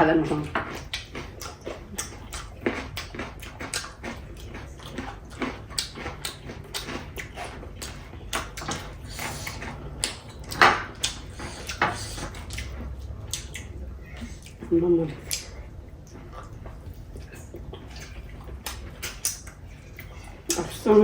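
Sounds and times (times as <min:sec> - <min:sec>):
wet chewing smacks: 0:00.7 - 0:20.8.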